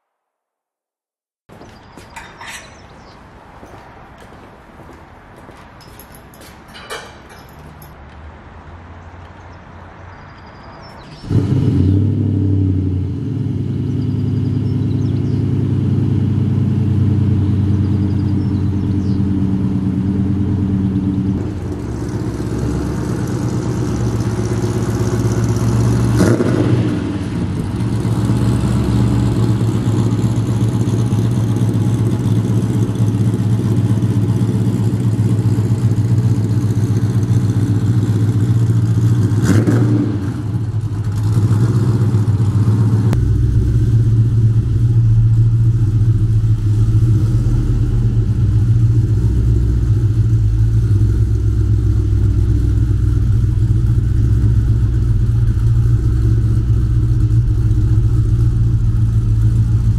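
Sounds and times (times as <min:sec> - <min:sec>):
engine running at low speed: 0:10.3 - 0:59.9.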